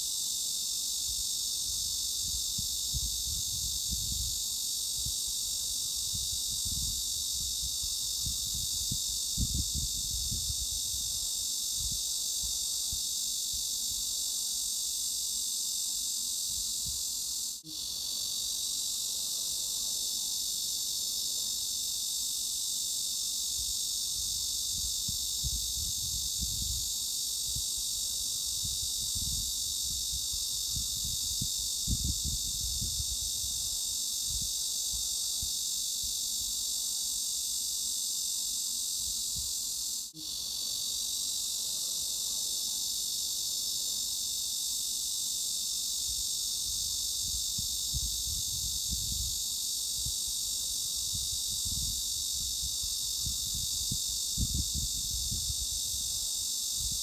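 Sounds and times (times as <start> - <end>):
cicadas buzzing: 0.0 - 57.0.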